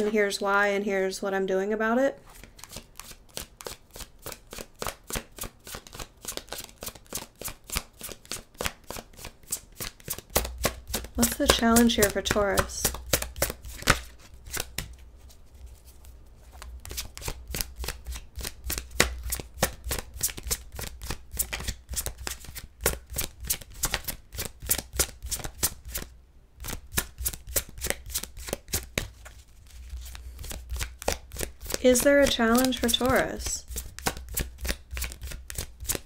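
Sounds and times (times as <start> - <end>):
cards being shuffled: 2.3 - 36.0.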